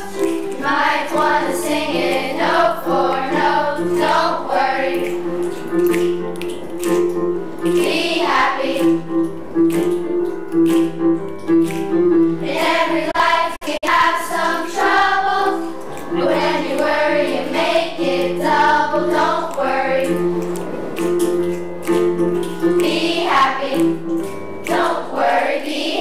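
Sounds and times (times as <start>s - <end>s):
children's choir singing: 0.0s - 6.2s, 7.6s - 9.8s, 12.1s - 21.2s, 22.6s - 26.0s
instrumental accompaniment: 0.0s - 26.0s.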